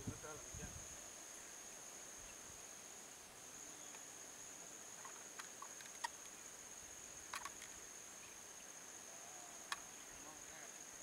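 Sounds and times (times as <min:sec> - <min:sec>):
insects droning: 0:00.0 - 0:11.0
sharp insect chirps: 0:00.0 - 0:11.0.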